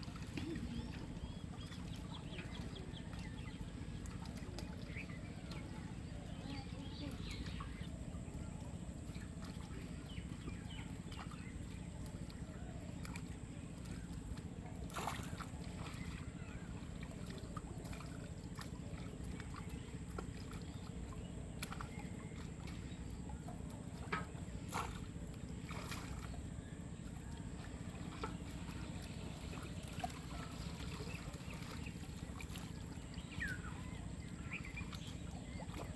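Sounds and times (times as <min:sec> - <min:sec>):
pond water sloshing and splashing: 0:00.0 - 0:35.9.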